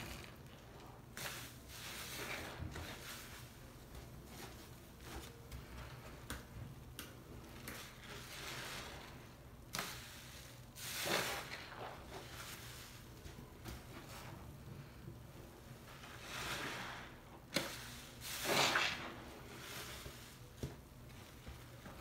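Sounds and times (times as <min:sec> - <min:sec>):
wet sponge squishing: 0:00.0 - 0:14.5, 0:15.8 - 0:22.0.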